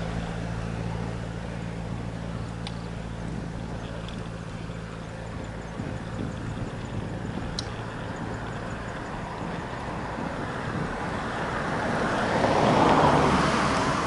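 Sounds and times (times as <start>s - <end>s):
vehicle engine humming: 0.0s - 14.0s
wind and road noise: 0.0s - 14.0s.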